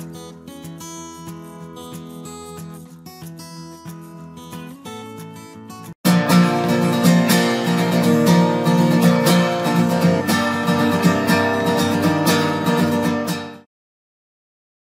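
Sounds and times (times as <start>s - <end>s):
strummed acoustic guitar music: 0.0s - 13.7s.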